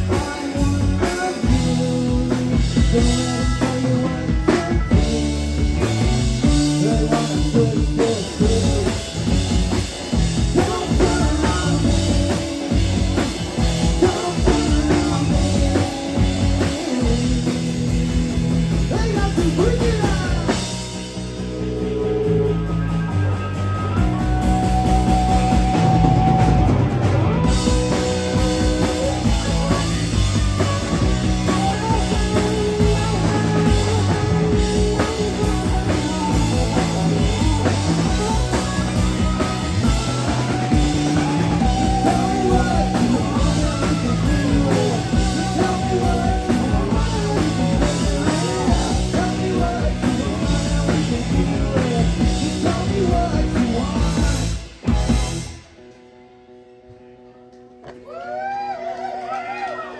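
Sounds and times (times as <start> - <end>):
person singing: 0.0 - 20.7, 24.0 - 54.6
rock band playing: 0.0 - 59.9.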